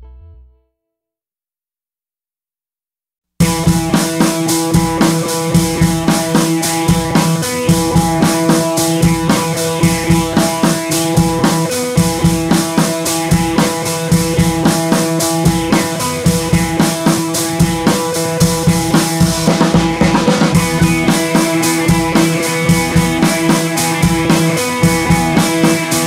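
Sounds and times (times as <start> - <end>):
drum kit beat: 3.4 - 26.0.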